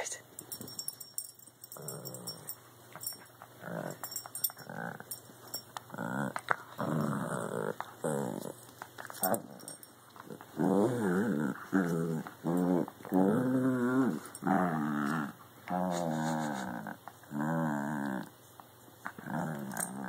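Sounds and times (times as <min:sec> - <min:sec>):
small dogs growling: 0:01.7 - 0:05.2, 0:05.9 - 0:08.6, 0:09.2 - 0:18.3, 0:19.0 - 0:20.0.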